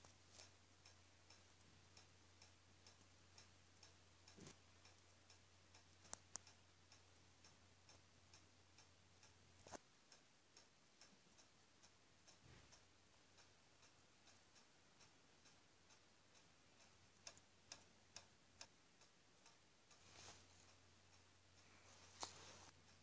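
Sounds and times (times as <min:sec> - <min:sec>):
faint even ticking: 0:00.0 - 0:23.0.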